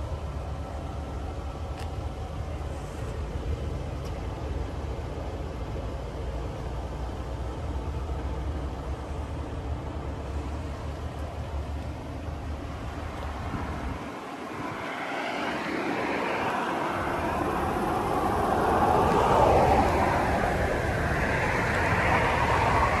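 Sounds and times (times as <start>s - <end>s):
pickup engine idling: 0.0s - 14.7s, 16.7s - 23.0s.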